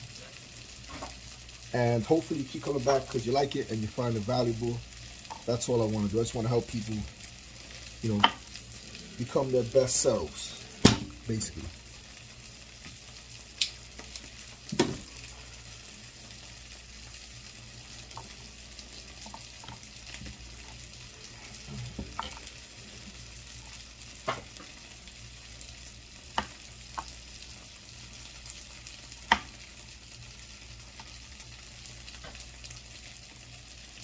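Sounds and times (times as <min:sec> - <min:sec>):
meat sizzling in a frying pan: 0:00.0 - 0:34.0.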